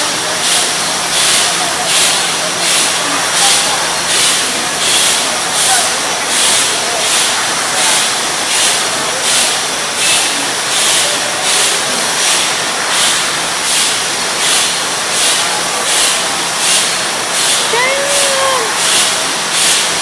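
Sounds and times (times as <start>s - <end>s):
bottling machinery din: 0.0s - 20.0s
pulsing hiss: 0.4s - 20.0s.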